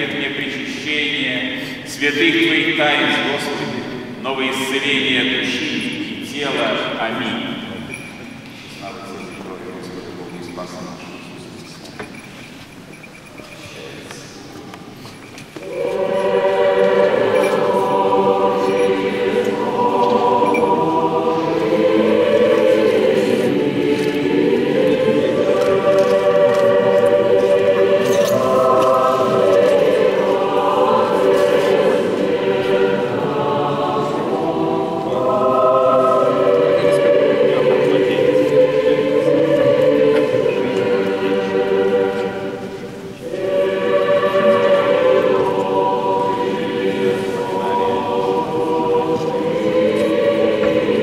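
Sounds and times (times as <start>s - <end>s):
church choir singing unaccompanied: 0.0s - 51.0s.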